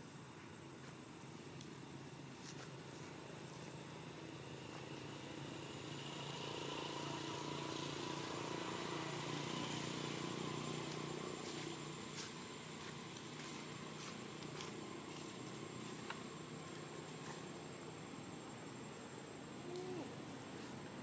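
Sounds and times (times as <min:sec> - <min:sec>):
distant motor engine running: 0:03.1 - 0:20.8.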